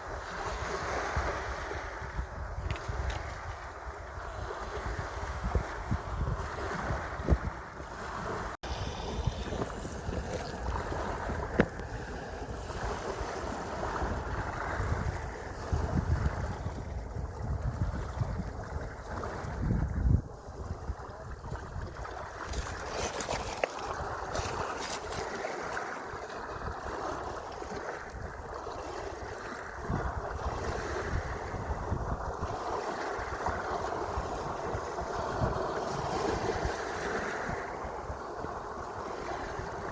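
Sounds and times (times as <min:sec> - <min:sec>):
sea waves washing: 0:00.0 - 0:39.9
wind buffeting microphone: 0:00.0 - 0:39.9.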